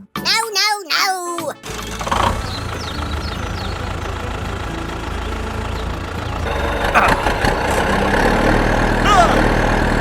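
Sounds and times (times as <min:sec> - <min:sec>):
low engine-like idling hum: 0:01.7 - 0:10.0.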